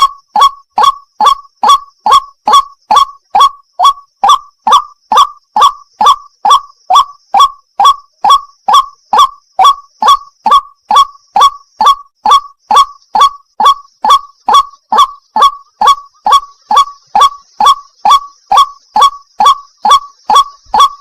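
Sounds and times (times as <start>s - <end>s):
waterhen calling: 0.0s - 21.0s.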